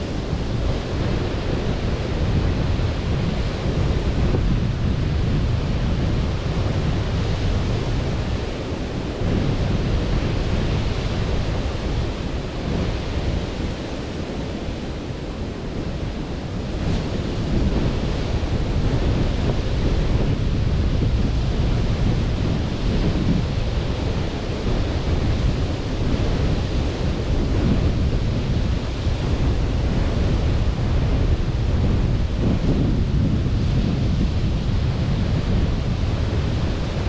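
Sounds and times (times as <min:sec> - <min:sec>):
sea waves washing onto beach: 0:00.0 - 0:37.0
wind rumbling on microphone: 0:00.0 - 0:37.0.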